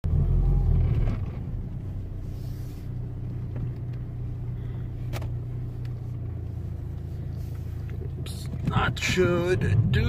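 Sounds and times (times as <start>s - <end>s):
diesel engine running at low revs: 0.0s - 10.0s.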